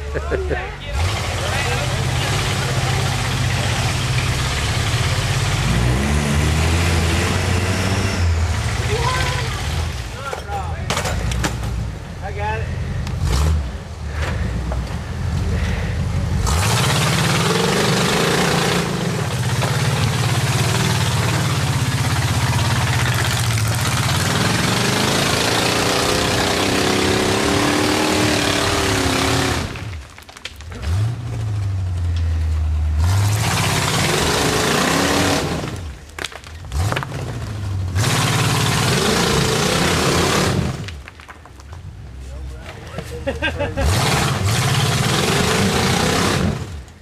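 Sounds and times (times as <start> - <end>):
buggy engine revving: 0.0 - 41.1, 41.8 - 47.0.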